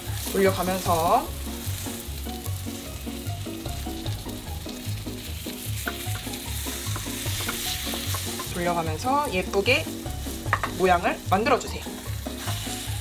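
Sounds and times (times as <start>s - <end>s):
light background music: 0.0s - 13.0s
pancake sizzling in oil: 0.0s - 13.0s.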